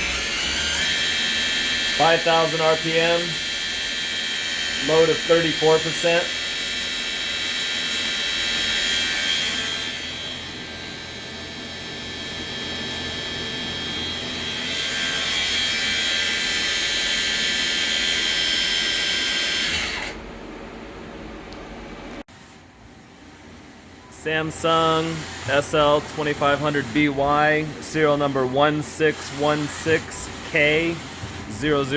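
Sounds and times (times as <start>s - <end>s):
lathe spindle high-pitched whine: 0.0s - 20.2s, 24.1s - 31.9s.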